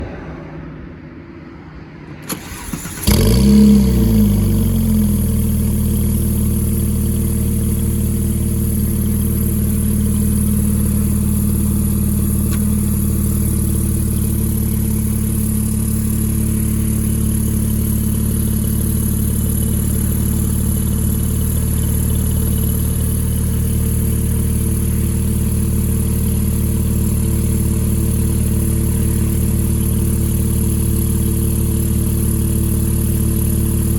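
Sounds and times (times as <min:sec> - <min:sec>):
car engine starting and idling: 0:00.6 - 0:33.9.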